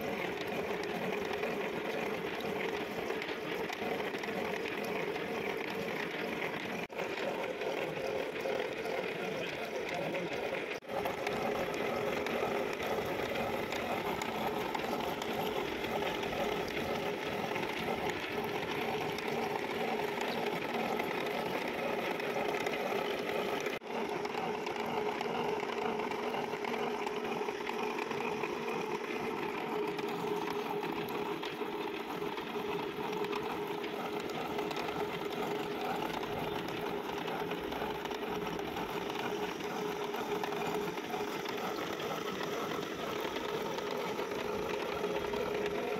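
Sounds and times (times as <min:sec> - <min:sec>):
machine cutting metal thread: 0:00.0 - 0:45.9.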